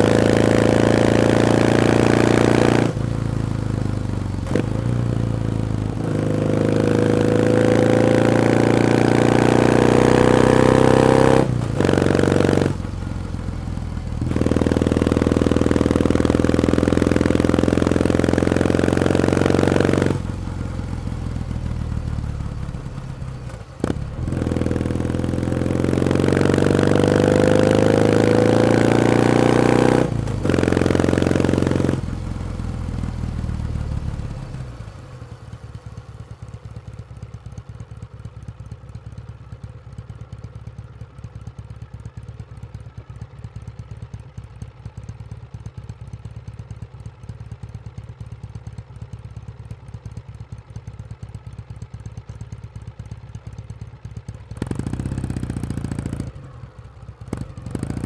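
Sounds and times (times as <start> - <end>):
motorcycle engine revving and idling: 0.0 - 58.0.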